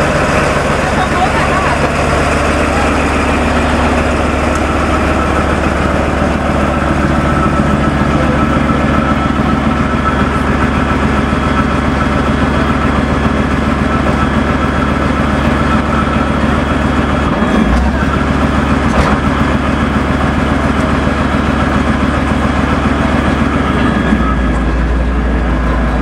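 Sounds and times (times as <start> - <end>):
tracked vehicle engine idling: 0.0 - 26.0.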